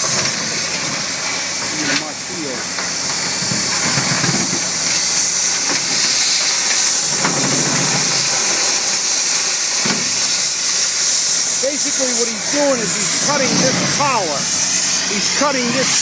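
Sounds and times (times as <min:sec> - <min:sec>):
cutting torch hissing: 0:00.0 - 0:16.0.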